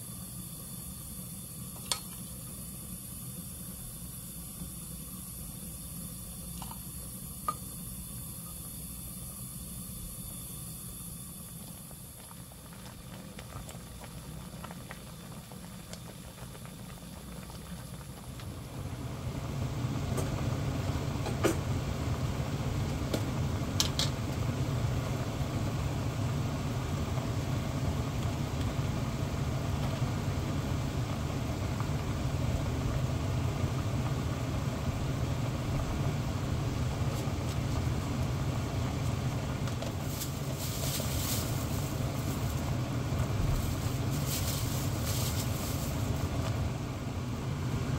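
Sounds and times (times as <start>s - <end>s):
pot boiling with bubbling hiss: 0.0s - 47.9s
steady low hum: 0.0s - 47.9s.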